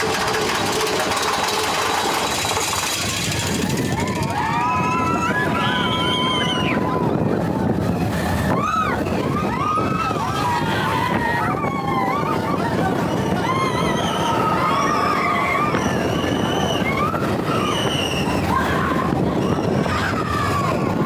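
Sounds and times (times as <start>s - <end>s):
riders whooping and yelling: 0.0s - 21.0s
roller coaster rattling on track: 0.0s - 21.0s
rushing wind: 0.0s - 21.0s.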